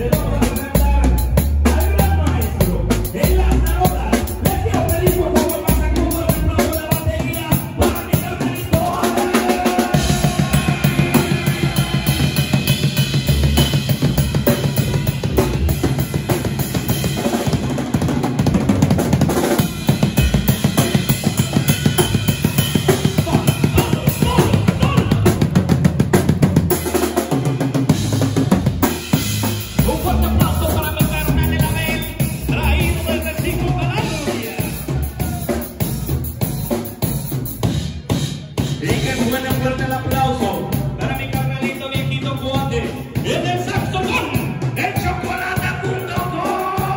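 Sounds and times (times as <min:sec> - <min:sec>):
band guitars: 0:00.0 - 0:46.9
drum kit fast beat: 0:00.0 - 0:46.9.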